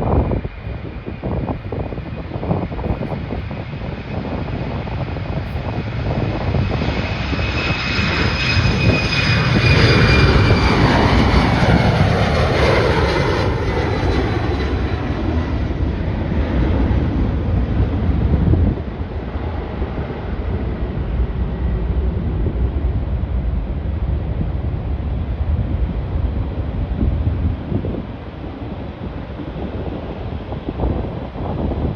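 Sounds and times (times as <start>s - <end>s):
airliner passing with engine whine: 0.0s - 31.9s.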